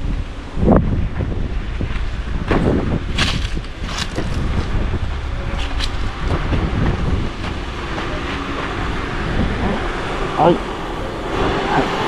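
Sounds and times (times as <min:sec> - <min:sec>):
faint car engines droning: 0:00.0 - 0:12.0
road traffic passing: 0:00.0 - 0:12.0
wind buffeting microphone: 0:00.0 - 0:12.0.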